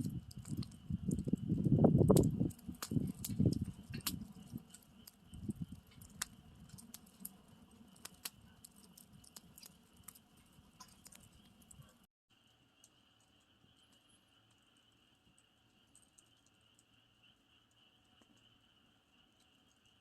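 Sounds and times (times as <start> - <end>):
faint campfire crackling: 0.0 - 20.0.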